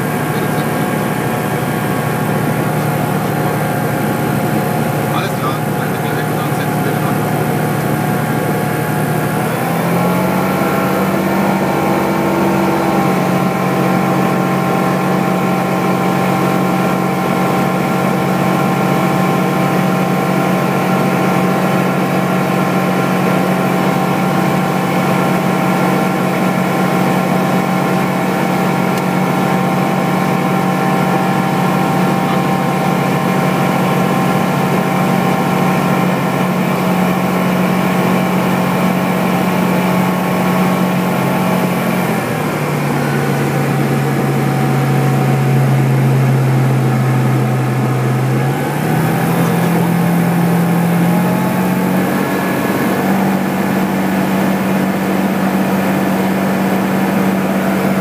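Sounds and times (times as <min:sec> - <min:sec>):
small plane engine droning: 0:00.0 - 0:58.0.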